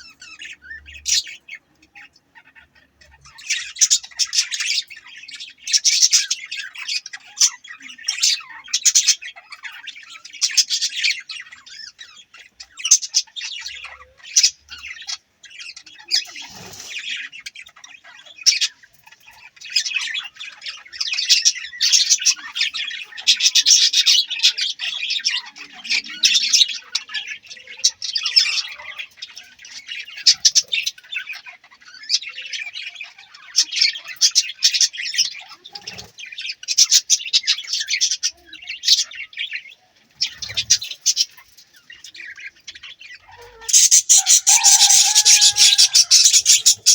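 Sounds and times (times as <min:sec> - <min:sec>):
budgerigars chirping: 0:00.0 - 0:46.9.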